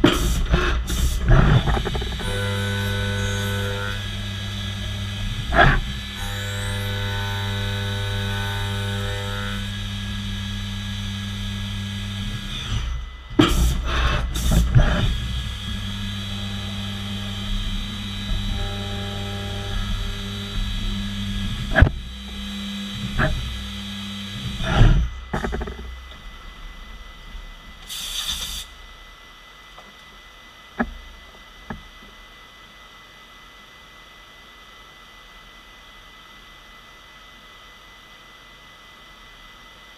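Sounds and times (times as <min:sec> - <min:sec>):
machine hum: 0:00.0 - 0:39.4.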